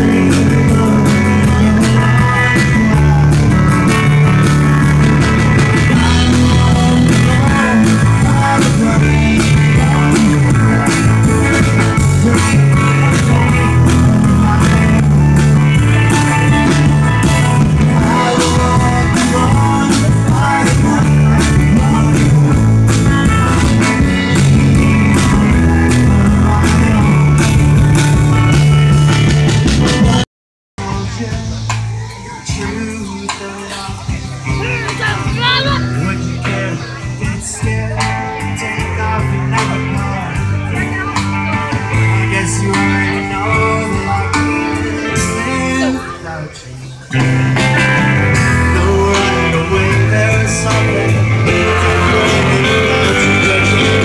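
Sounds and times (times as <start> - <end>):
drum kit beat: 0.0 - 30.2, 30.8 - 46.2, 47.1 - 54.0
live rock band playing: 0.0 - 54.0.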